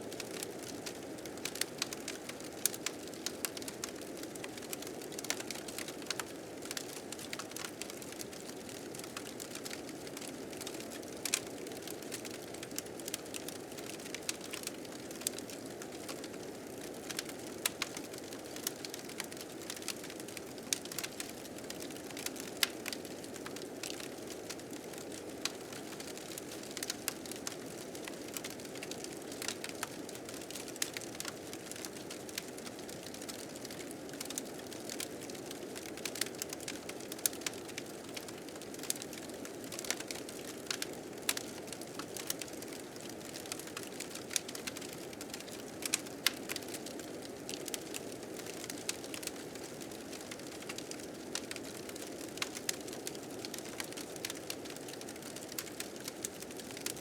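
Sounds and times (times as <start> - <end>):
wood fire crackling and popping: 0.1 - 57.0.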